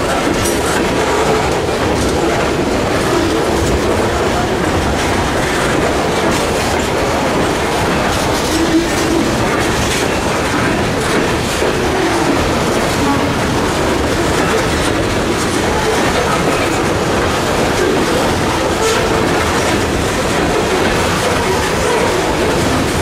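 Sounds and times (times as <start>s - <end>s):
steel wheels rumbling on rails: 0.0s - 23.0s
wheels clickety-clack over track: 0.0s - 23.0s.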